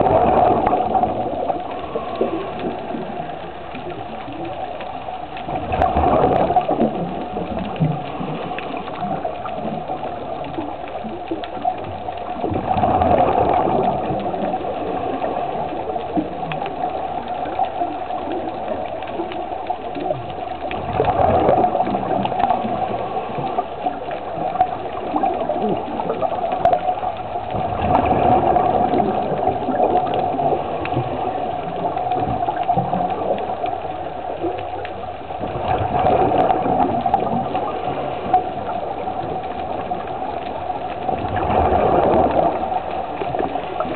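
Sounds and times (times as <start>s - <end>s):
bubbles gushing: 0.0s - 43.9s.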